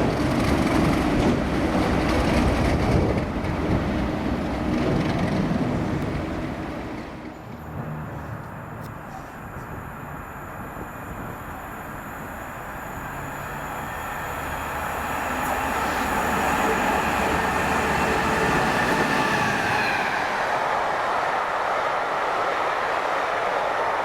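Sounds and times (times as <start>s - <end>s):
train running on track: 0.0s - 24.0s.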